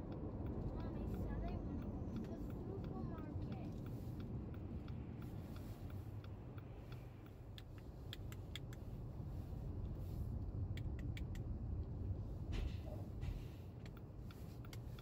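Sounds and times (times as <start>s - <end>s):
car engine and road rumble: 0.0s - 15.0s
light evenly spaced ticks: 0.0s - 15.0s.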